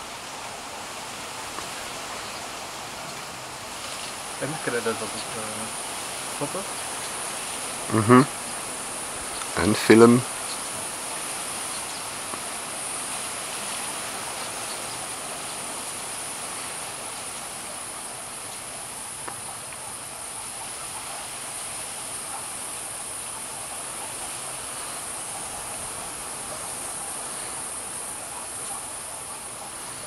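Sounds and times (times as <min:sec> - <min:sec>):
background hiss: 0:00.0 - 0:30.0
high-pitched insect drone: 0:00.0 - 0:30.0.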